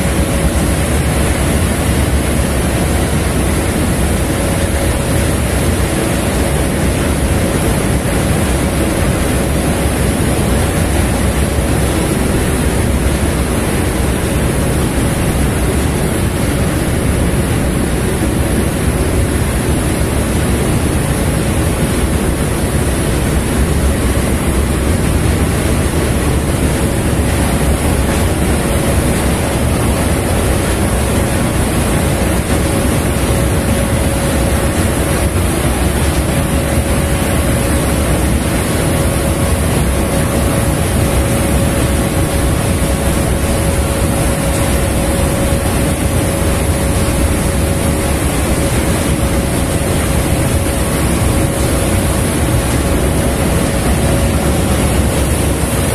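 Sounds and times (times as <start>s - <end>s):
boat engine rumble: 0.0s - 55.9s
water noise: 0.0s - 55.9s.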